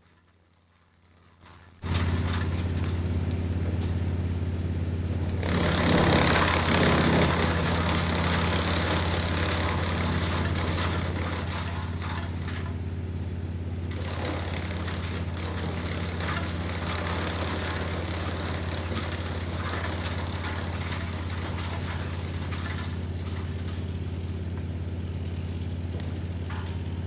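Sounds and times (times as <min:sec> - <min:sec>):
wood grinding in chipper: 0:00.1 - 0:27.0
wood chipper engine hum: 0:01.4 - 0:27.0.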